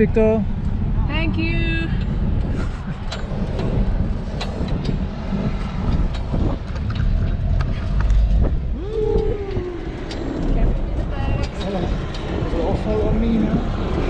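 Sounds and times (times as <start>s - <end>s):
vehicle engine rumble: 0.0s - 14.0s
frame and load rattling: 2.0s - 14.0s.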